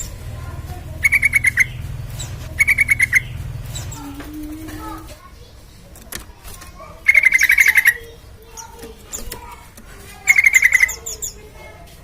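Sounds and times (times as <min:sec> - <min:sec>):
bird singing rapid repeated notes: 0:00.0 - 0:11.7
soft bird chirps: 0:01.0 - 0:06.1, 0:07.0 - 0:11.7.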